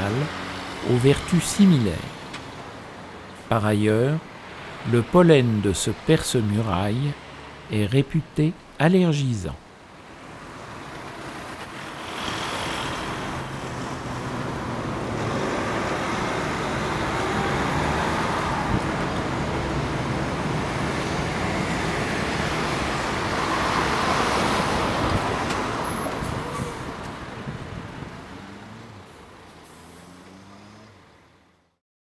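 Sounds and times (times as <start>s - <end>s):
road traffic passing: 0.0s - 31.8s.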